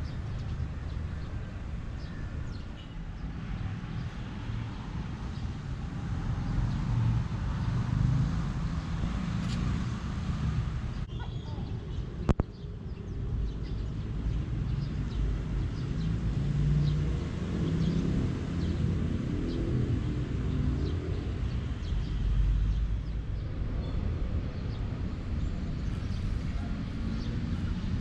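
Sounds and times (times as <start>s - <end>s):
distant traffic rumble: 0.0s - 28.0s.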